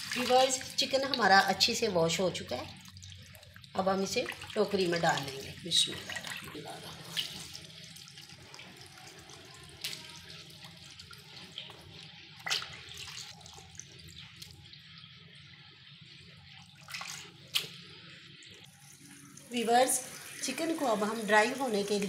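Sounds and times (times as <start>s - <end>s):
water trickling and dripping: 0.0s - 22.0s.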